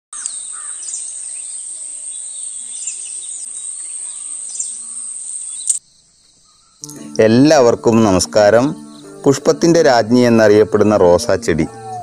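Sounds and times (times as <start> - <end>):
bird chirps: 0.2 - 9.3, 10.1 - 12.0
high-pitched insect trill: 0.2 - 10.9.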